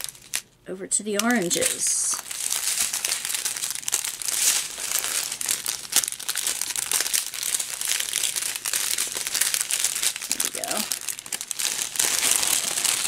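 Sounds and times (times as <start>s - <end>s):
plastic bags crinkling: 0.0s - 0.5s, 1.1s - 13.0s.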